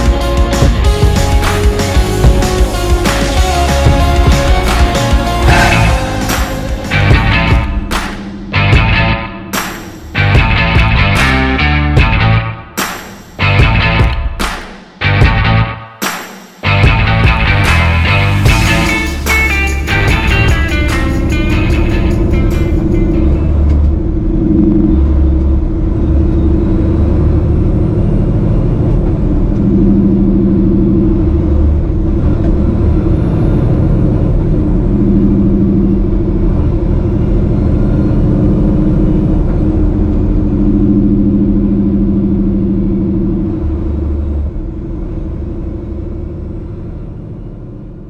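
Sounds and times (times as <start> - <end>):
synth drones and bass notes: 0.0 - 15.9, 16.6 - 48.0.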